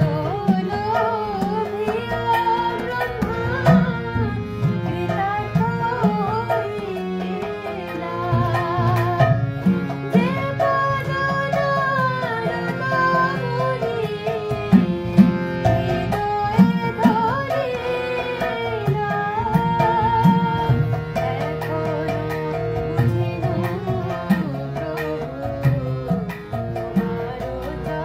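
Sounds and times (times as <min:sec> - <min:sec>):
harmonium drones and chords: 0:00.0 - 0:28.0
tabla beat: 0:00.0 - 0:28.0
woman singing devotional song: 0:00.0 - 0:28.0.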